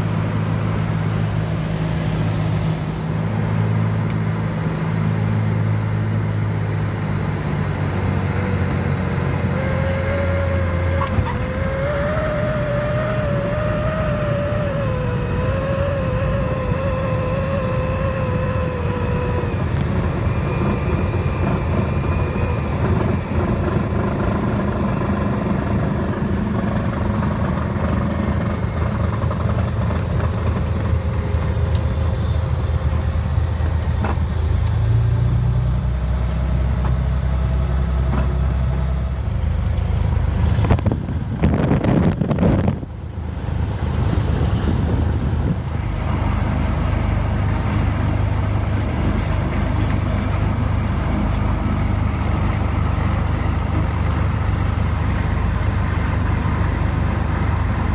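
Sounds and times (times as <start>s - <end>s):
propeller plane engine droning: 0.0s - 57.9s.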